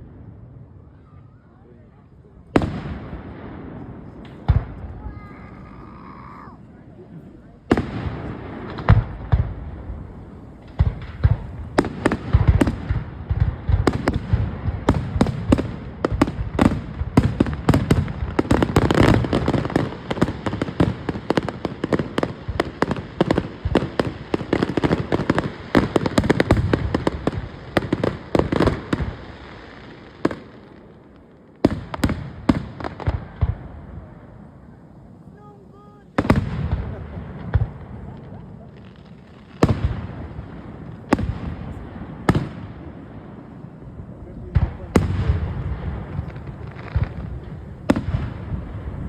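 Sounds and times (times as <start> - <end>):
fireworks booming and crackling: 0.0 - 49.0.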